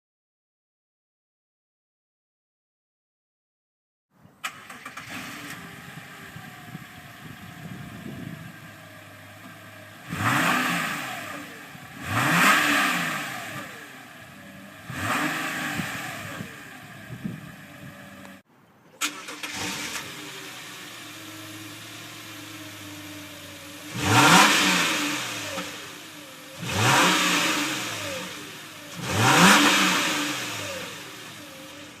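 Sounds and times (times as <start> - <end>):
car engine idling and revving: 4.5 - 32.0.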